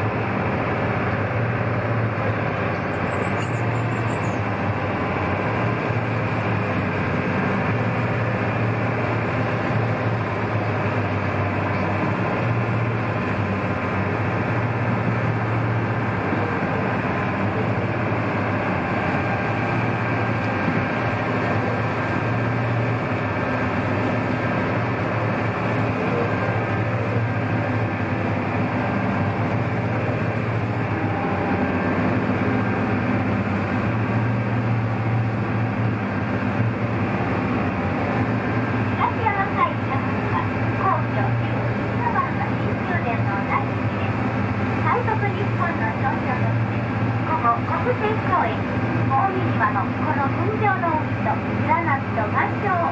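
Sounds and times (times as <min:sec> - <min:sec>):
boat engine humming: 0:00.0 - 0:52.9
water rushing along hull: 0:00.0 - 0:52.9.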